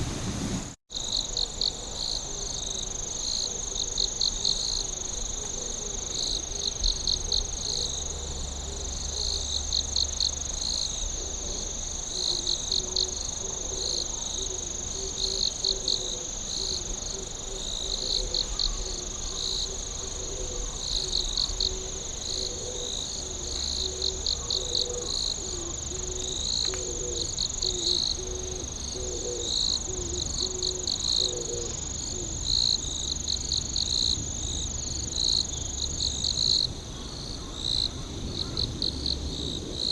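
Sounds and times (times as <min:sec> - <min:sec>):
crickets chirping: 0:00.0 - 0:39.9
low pulsing insect call: 0:00.0 - 0:39.9
steady high insect trill: 0:00.9 - 0:39.9.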